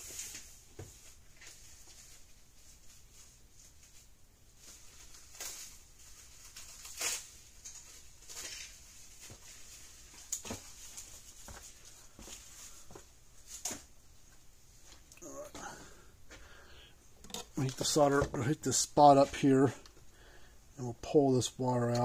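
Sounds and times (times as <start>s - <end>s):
light steady hiss: 0.0s - 22.0s.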